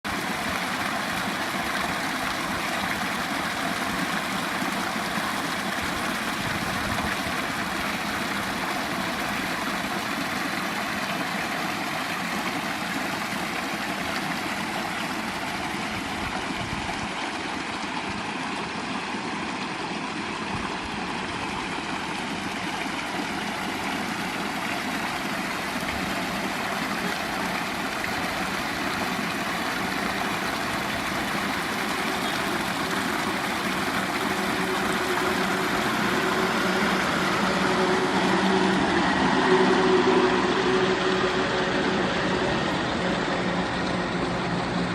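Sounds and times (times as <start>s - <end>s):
stream splashing over pebbles: 0.0s - 44.9s.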